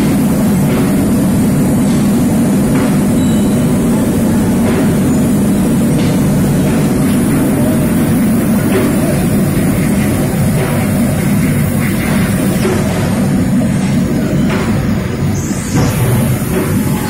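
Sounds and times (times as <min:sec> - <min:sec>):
machinery low hum: 0:00.0 - 0:17.0.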